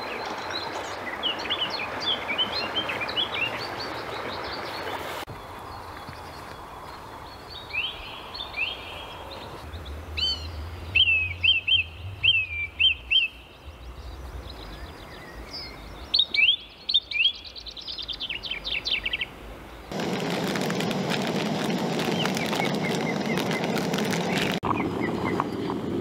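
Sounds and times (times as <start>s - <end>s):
songbirds singing: 0.0s - 21.0s, 21.8s - 25.9s.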